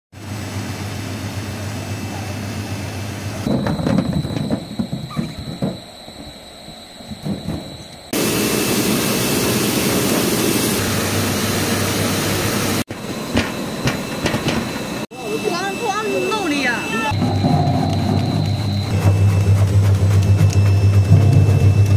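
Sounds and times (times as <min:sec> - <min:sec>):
machinery humming: 0:00.2 - 0:21.9.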